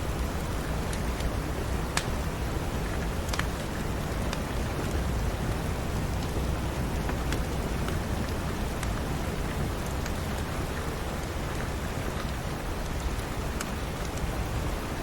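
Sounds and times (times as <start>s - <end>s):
heavy rain: 0.0s - 15.0s
wood fire crackling: 0.0s - 15.0s.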